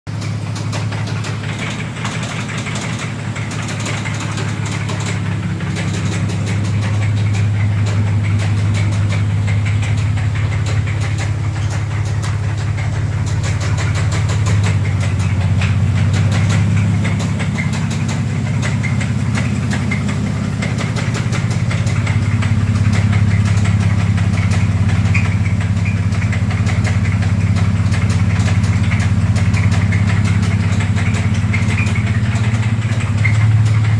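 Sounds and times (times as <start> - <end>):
engine running with heavy knock: 0.1 - 33.9.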